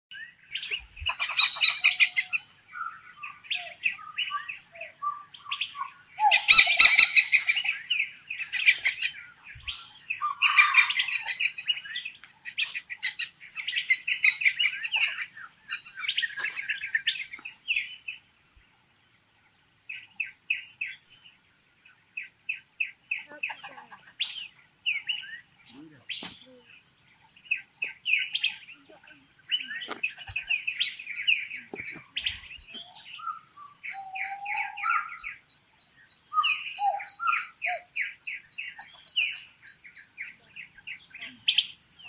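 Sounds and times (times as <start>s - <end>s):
songbirds chirping: 0.1s - 42.0s.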